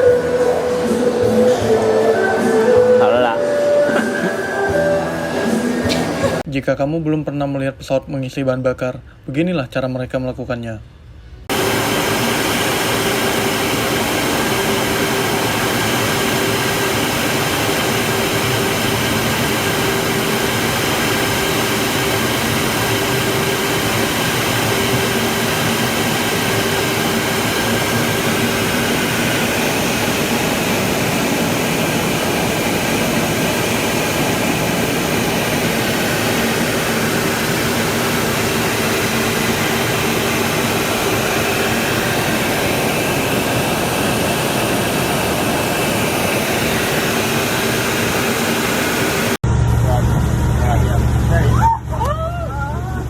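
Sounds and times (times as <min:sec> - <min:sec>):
jet aircraft engine and airflow: 0:00.0 - 0:06.5, 0:11.4 - 0:51.4.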